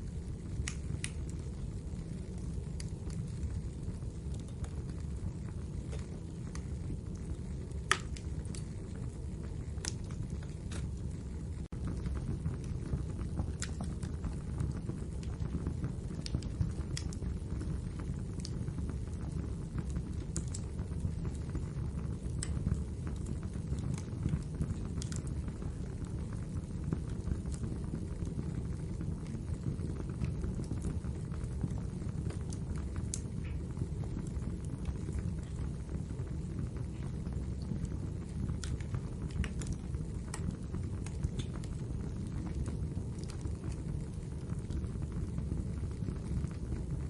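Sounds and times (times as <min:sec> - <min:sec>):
low rumble of flames: 0:00.0 - 0:47.0
wood fire crackling: 0:00.0 - 0:47.0.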